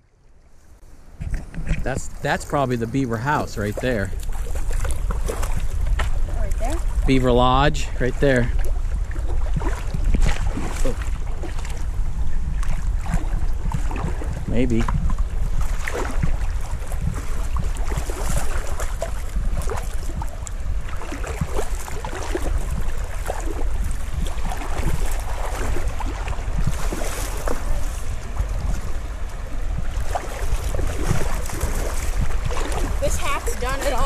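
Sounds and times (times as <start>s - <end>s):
river water splashing: 0.0s - 34.0s
wind rumble on microphone: 0.0s - 34.0s.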